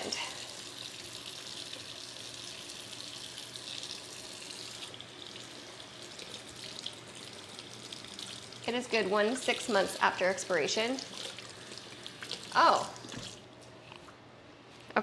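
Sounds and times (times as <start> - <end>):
kitchen tap running: 0.0 - 13.6.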